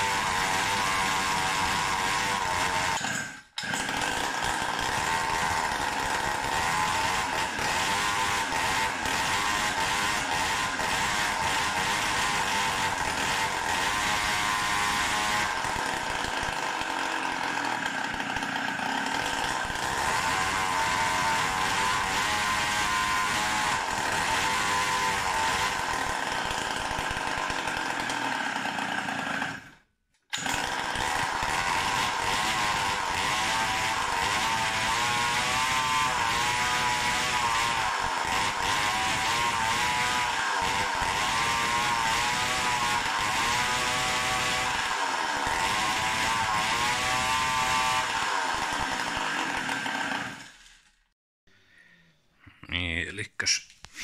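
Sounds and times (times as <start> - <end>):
two-stroke engine running: 0.1 - 29.6, 30.3 - 50.6.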